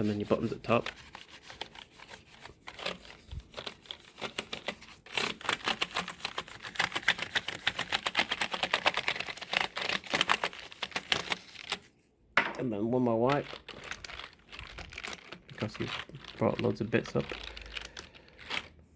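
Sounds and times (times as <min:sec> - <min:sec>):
brush scrubbing keyboard keys: 0:00.0 - 0:11.9, 0:13.2 - 0:18.7.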